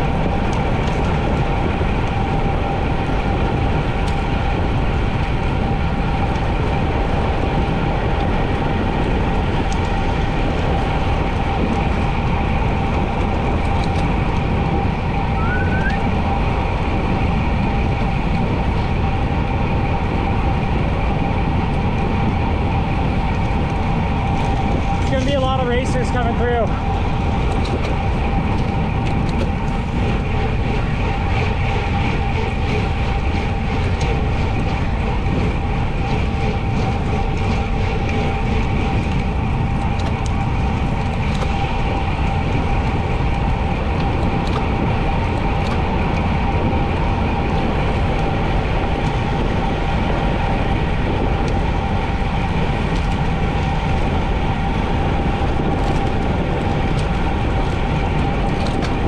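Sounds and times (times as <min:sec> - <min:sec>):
bicycle rolling noise: 0:00.0 - 0:59.0
faint constant whine: 0:00.0 - 0:59.0
wind rushing over microphone: 0:00.0 - 0:59.0.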